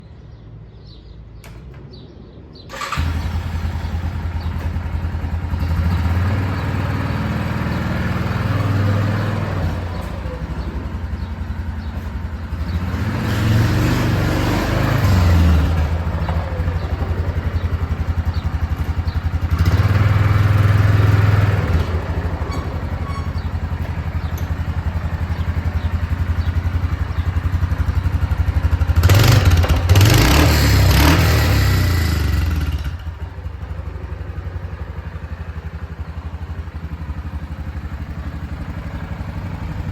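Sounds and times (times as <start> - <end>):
atv engine starting and revving: 2.7 - 39.9.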